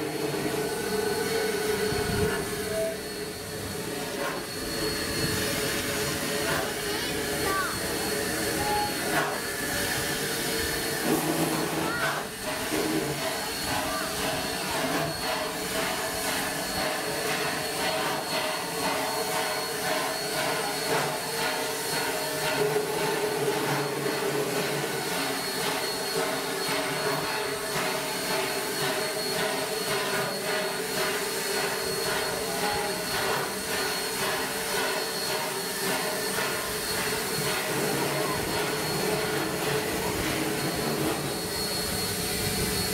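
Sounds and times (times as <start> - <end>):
steam hissing: 0.0 - 42.9
steam locomotive creeping: 0.0 - 42.9.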